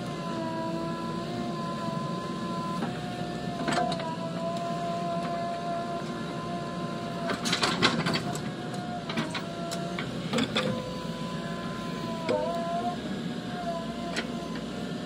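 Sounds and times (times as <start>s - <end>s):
diesel engine and hydraulics whining: 0.0s - 15.0s.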